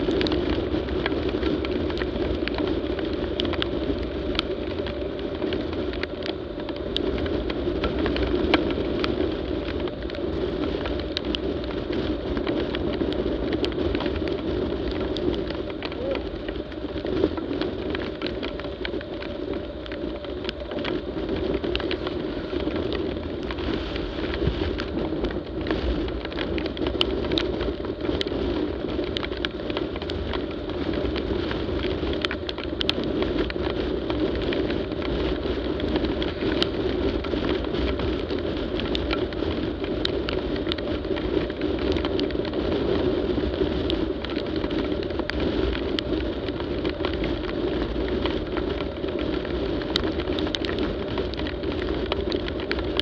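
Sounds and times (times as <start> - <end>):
motorcycle engine drone: 0.0 - 53.0
raindrops hitting camera: 0.0 - 53.0
wind: 0.0 - 53.0.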